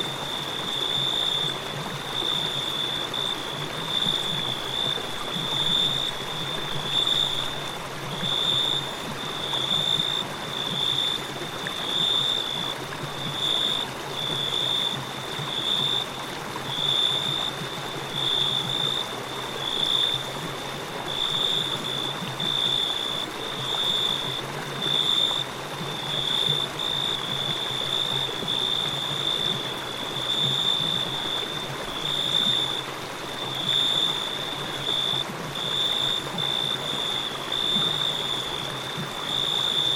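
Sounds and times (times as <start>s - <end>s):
crickets chirping: 0.0s - 39.9s
river water flowing: 0.0s - 39.9s.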